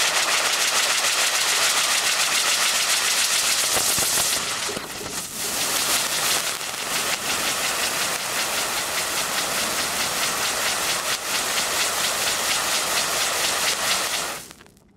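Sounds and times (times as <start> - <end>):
firework sparks hissing: 0.0 - 14.8.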